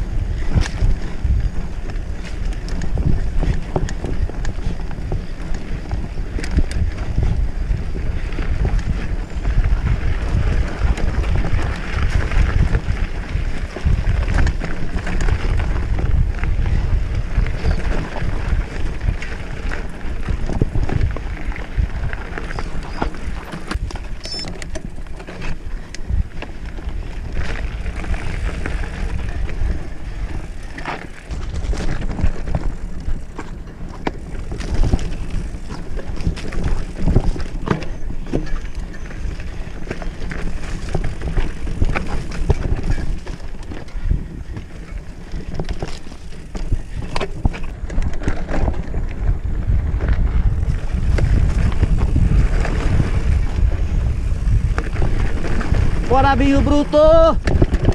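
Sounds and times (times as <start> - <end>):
bike rattling over bumps: 0.0 - 57.9
bike tyres rolling over dirt: 0.0 - 57.9
wind buffeting microphone: 0.0 - 57.9.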